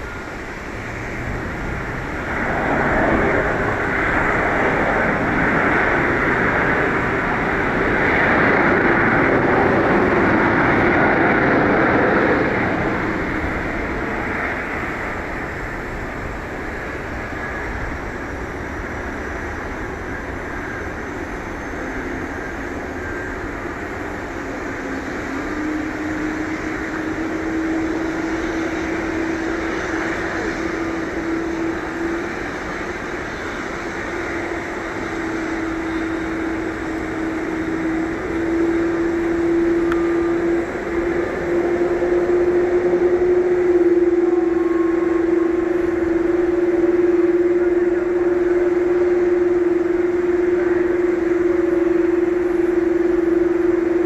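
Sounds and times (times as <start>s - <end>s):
airliner jet rumble landing: 0.0s - 54.0s.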